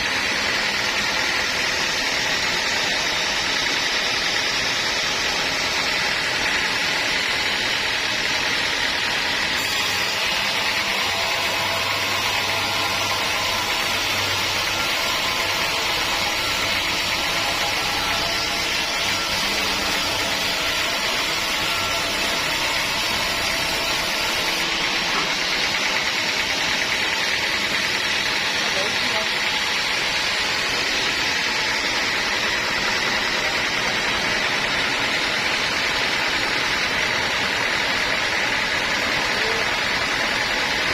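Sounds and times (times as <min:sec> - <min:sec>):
sawmill machinery whirring: 0:00.0 - 0:40.9.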